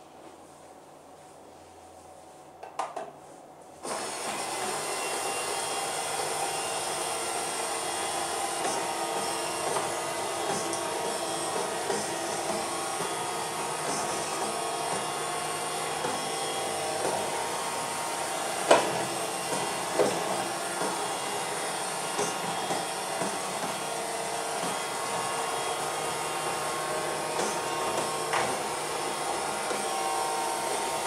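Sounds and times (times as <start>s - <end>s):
robot vacuum motor hum: 3.8s - 31.0s.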